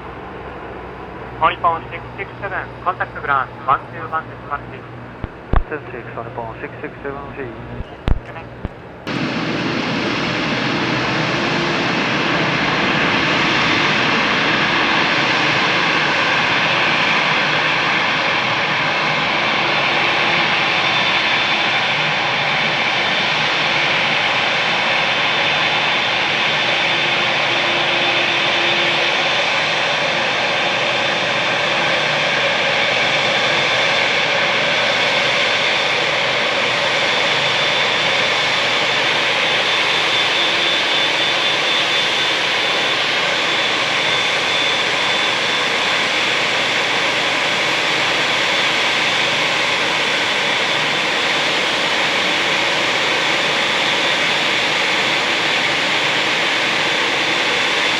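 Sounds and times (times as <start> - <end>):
jet engines with high whine: 0.0 - 57.9.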